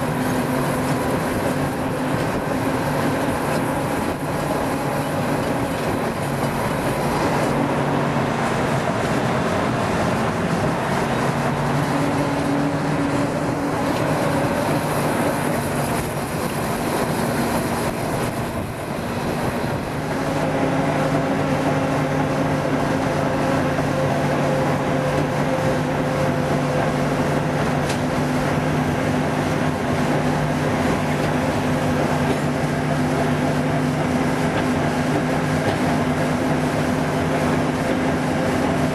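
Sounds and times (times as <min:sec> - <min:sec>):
steady low hum: 0:00.0 - 0:37.9
train rumble: 0:00.0 - 0:38.9.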